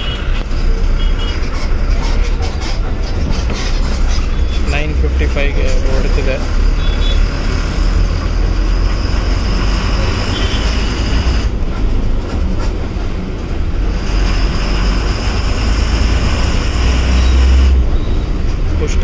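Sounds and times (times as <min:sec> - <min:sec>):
bus engine low rumble: 0:00.0 - 0:19.0
road noise: 0:00.0 - 0:19.0.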